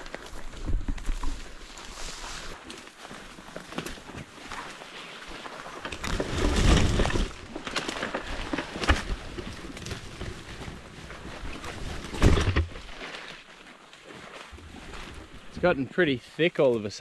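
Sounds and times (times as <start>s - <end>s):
branches scraping and cracking: 0.0s - 15.9s.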